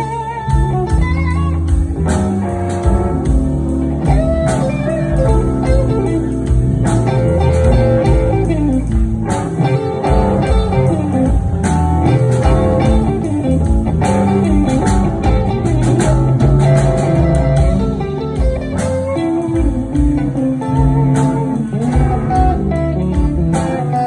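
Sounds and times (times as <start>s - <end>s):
blues band playing: 0.0s - 24.0s.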